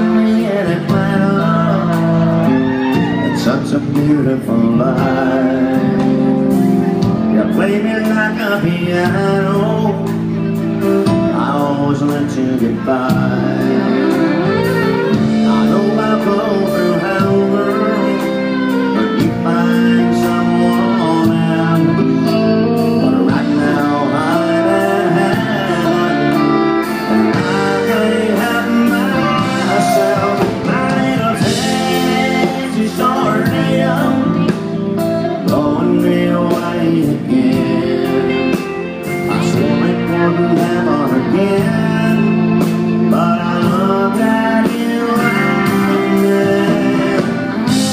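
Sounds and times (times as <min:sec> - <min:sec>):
live country band playing: 0:00.0 - 0:47.9
man singing: 0:00.0 - 0:47.9.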